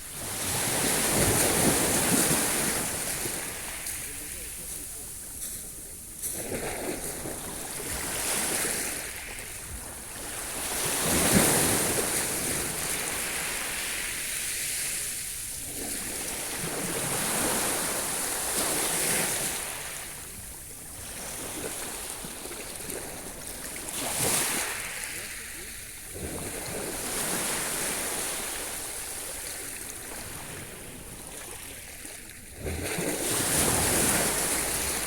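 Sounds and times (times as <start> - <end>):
sea waves washing: 0.0 - 35.0.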